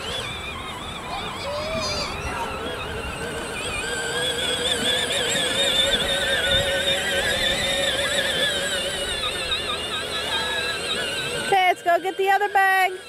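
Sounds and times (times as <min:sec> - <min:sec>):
electric ride-on toy motor whine: 0:00.0 - 0:13.0.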